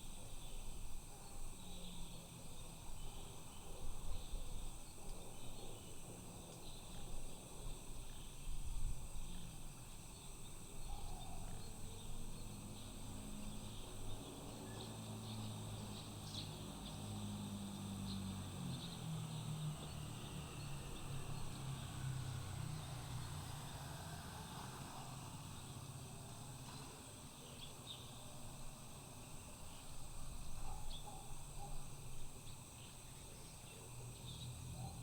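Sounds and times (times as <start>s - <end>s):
insects buzzing and trilling: 0.0s - 35.0s.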